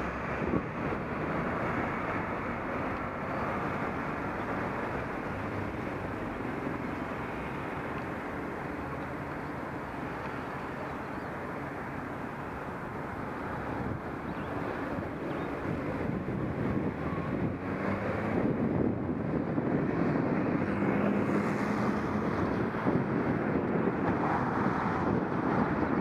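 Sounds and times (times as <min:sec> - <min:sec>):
street traffic: 0:00.0 - 0:26.0
wind on microphone: 0:00.0 - 0:26.0.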